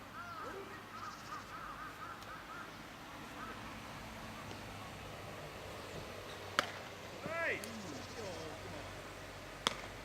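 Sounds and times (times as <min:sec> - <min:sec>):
birds calling: 0:00.0 - 0:10.0
steady background hiss: 0:00.0 - 0:10.0.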